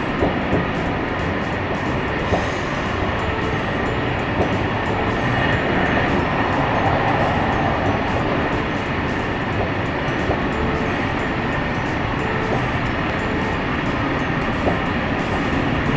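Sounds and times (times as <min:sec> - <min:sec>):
train rumbling: 0:00.0 - 0:15.9.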